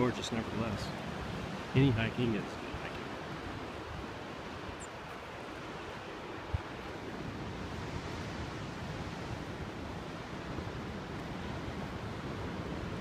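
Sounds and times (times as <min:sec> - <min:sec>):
ocean surf breaking on rocks: 0:00.0 - 0:13.0
wind rumble on microphone: 0:02.4 - 0:13.0.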